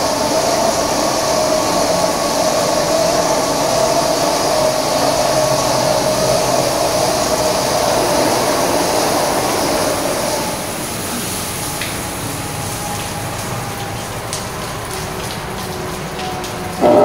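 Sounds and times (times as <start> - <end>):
car wash brushes: 0.0 - 17.0
car wash motor whine: 0.0 - 17.0
water spray hiss: 0.0 - 17.0.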